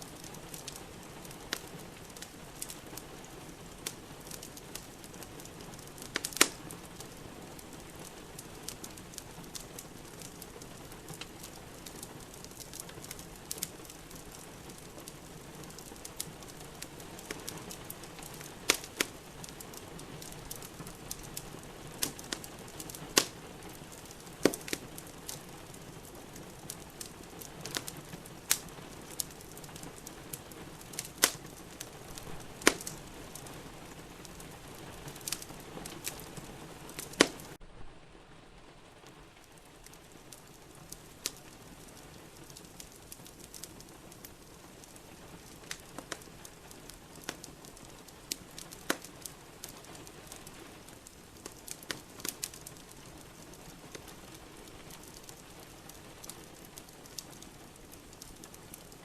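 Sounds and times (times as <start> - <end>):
wood fire crackling and popping: 0.0 - 37.8, 38.5 - 59.0
steady hiss of rain: 0.0 - 59.0.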